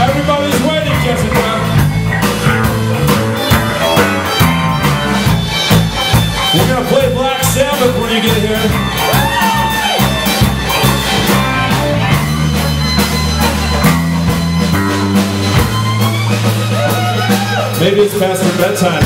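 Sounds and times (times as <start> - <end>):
fiddle: 0.0 - 18.9
bass guitar: 0.0 - 19.0
drum kit: 0.0 - 19.0
electric guitar: 0.0 - 19.0.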